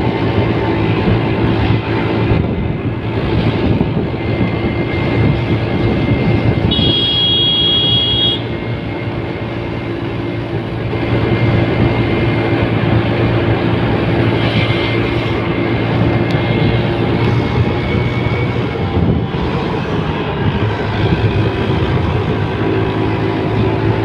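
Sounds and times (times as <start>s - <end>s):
vehicle engine running: 0.0s - 24.0s
wind and road noise: 0.0s - 24.0s.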